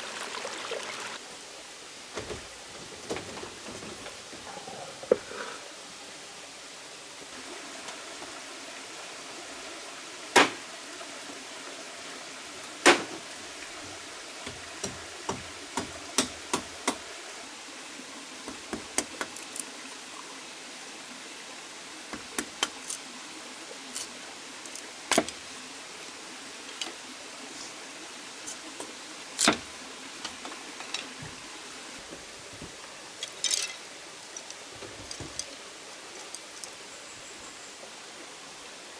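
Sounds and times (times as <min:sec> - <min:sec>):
steady hiss: 0:01.1 - 0:38.9.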